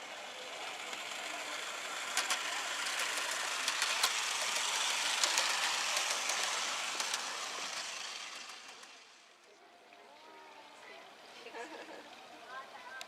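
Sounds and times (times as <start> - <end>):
model train wheels on rails: 0.0 - 13.0.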